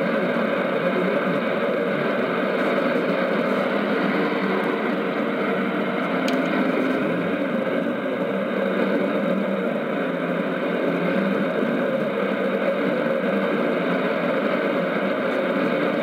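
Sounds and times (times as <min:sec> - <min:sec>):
shortwave radio static hiss: 0:00.0 - 0:16.0.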